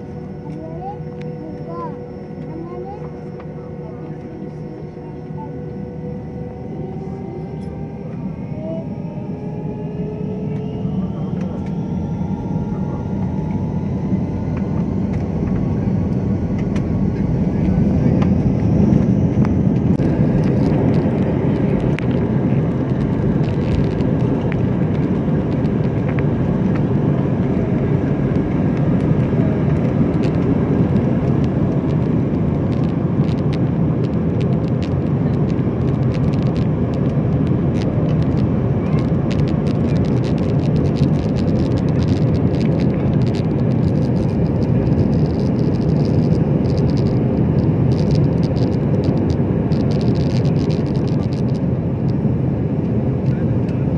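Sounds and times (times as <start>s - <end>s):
faint rising engine whine: 0.0s - 53.9s
jet engines rumbling in cabin: 0.0s - 53.9s.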